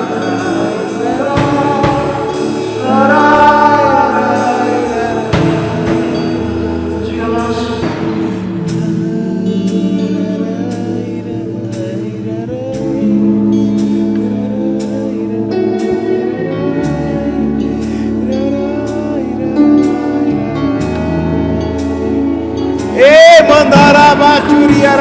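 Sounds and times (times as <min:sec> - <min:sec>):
bass line: 0:00.0 - 0:25.0
keyboard chords: 0:00.0 - 0:25.0
person singing wordless melody: 0:00.0 - 0:25.0.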